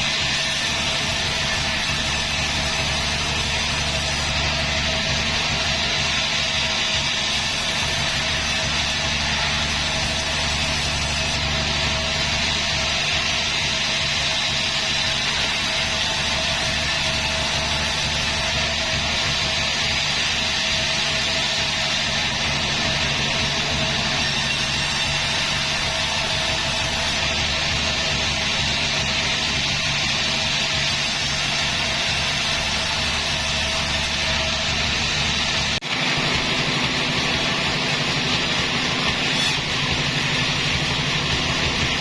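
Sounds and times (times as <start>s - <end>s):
saw whine: 0.0s - 42.0s
rushing noise: 0.9s - 42.0s.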